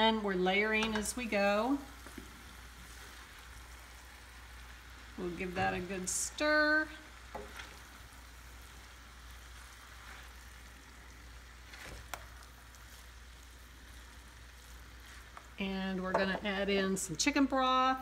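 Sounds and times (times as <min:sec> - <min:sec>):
food sizzling in a pan: 0:00.0 - 0:18.0
spatula stirring: 0:00.8 - 0:16.4.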